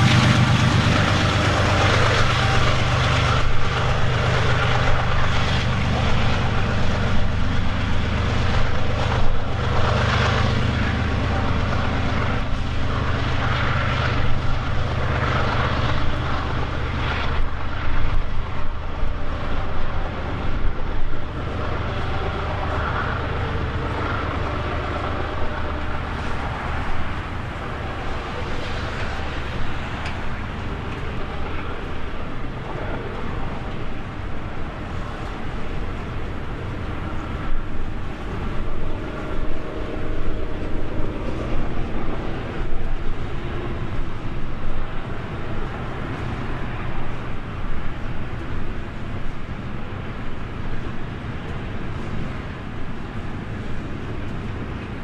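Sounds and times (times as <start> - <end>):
diesel locomotive engine drone: 0.0 - 55.0
train wheels rumbling on rail: 0.0 - 55.0.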